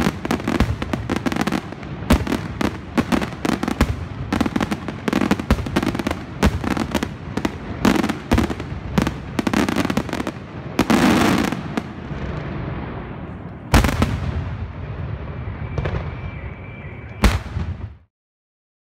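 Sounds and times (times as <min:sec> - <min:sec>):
fireworks bangs and crackling: 0:00.0 - 0:18.1.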